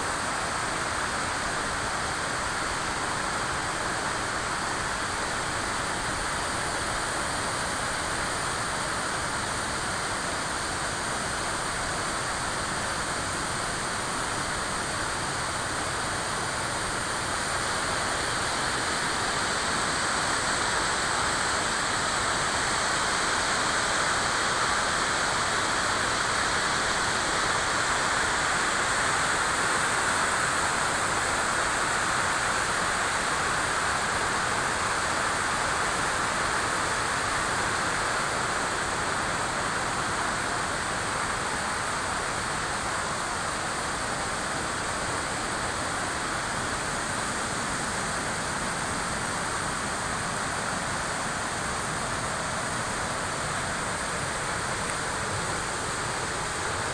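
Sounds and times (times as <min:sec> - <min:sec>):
river water rushing: 0:00.1 - 0:56.9.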